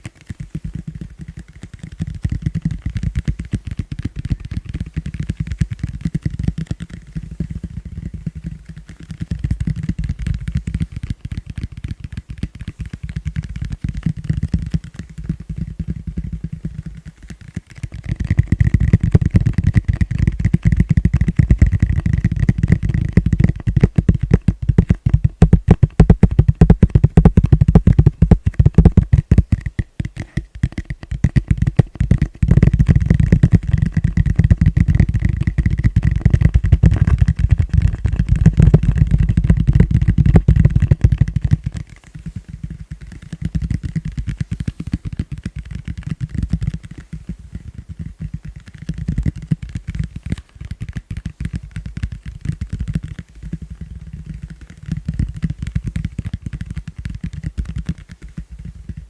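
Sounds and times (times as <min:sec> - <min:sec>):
fingers tapping plastic bowl: 0:00.0 - 0:59.0.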